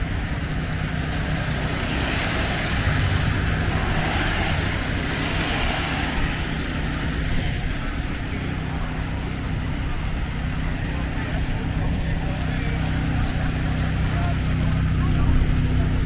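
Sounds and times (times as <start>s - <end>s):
low traffic rumble: 0.0s - 16.0s
vehicle passing with hiss: 0.0s - 16.0s.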